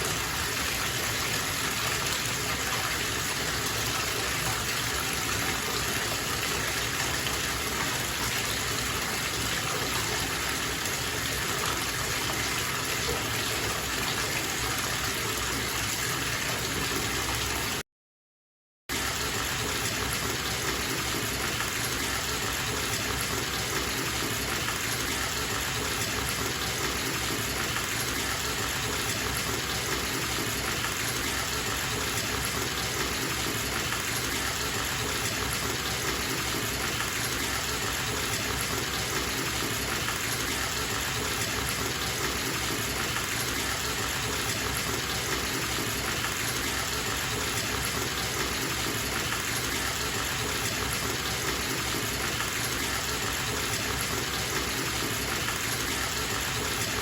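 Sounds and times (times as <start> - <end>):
water gushing into bathtub: 0.0 - 17.8, 18.9 - 57.0.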